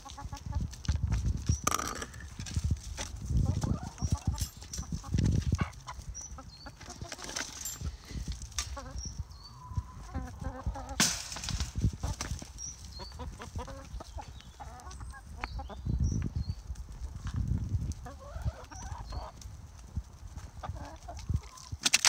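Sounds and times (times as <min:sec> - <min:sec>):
hens clucking: 0:00.0 - 0:16.2, 0:17.0 - 0:19.5, 0:20.4 - 0:21.9.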